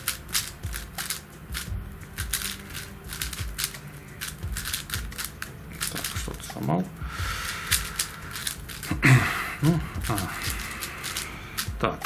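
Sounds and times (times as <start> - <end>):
speed cube plastic clicks: 0.0 - 6.5, 7.7 - 9.0, 10.0 - 12.0.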